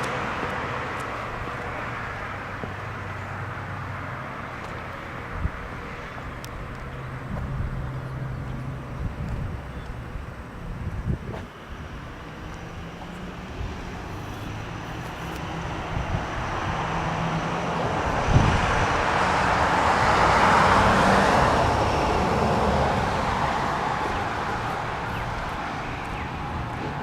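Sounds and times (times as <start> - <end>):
road vehicle passing: 0.0 - 27.0.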